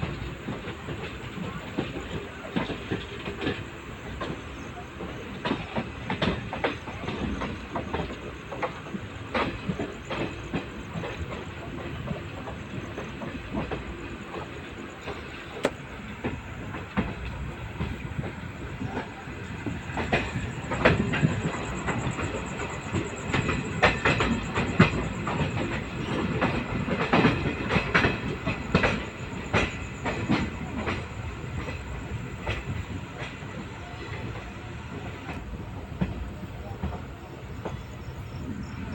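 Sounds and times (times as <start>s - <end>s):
wheels clicking over rails: 0.0s - 37.0s
train coach running rumble: 0.0s - 38.9s.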